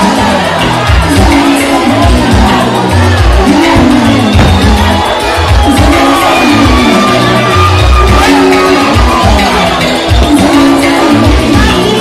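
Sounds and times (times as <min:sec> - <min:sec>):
deep bass notes: 0:00.0 - 0:10.4.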